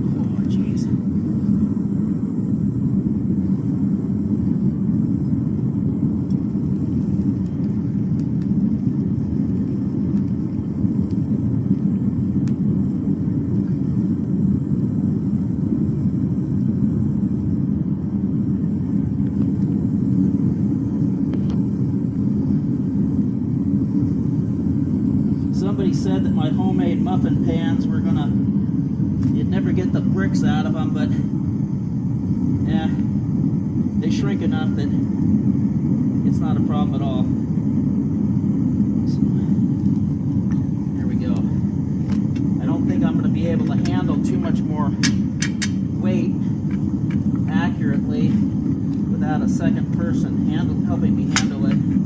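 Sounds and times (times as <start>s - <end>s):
furnace burner roaring: 0.0s - 52.0s.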